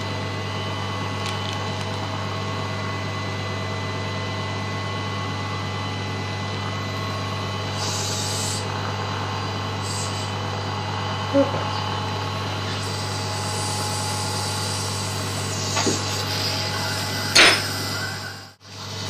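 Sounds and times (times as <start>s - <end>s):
suction unit motor hum: 0.0s - 19.0s.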